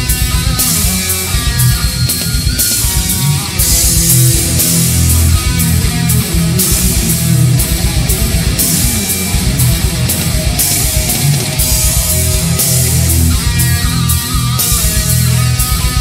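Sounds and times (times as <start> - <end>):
crashing cymbals: 0.0 - 16.0
drums: 0.0 - 16.0
electric guitar heavy metal riff: 0.0 - 16.0.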